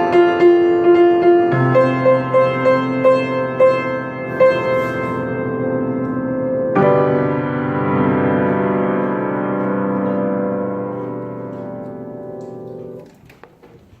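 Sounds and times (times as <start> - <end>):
piano chord ringing: 0.0 - 13.1.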